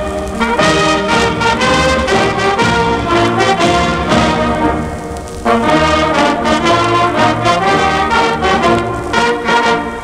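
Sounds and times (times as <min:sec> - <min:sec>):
brass band playing a march: 0:00.0 - 0:10.0.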